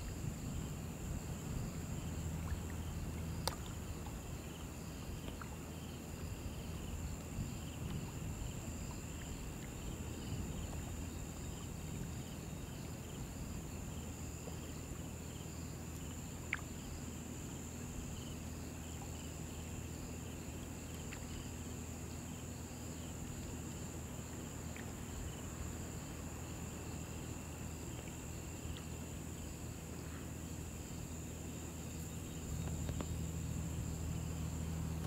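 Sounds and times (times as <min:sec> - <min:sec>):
insects buzzing: 0:00.0 - 0:35.0
low steady rumble: 0:00.0 - 0:35.0.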